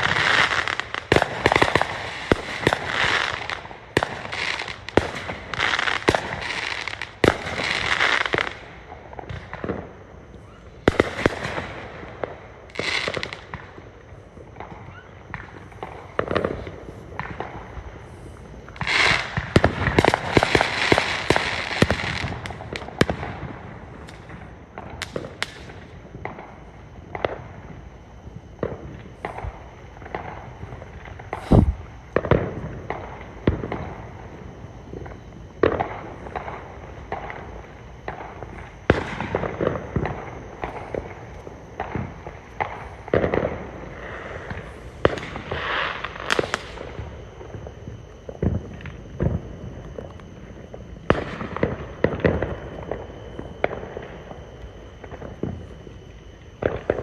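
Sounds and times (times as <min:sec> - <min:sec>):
fireworks bangs: 0:00.0 - 0:54.4
fireworks crackling: 0:00.0 - 0:57.0.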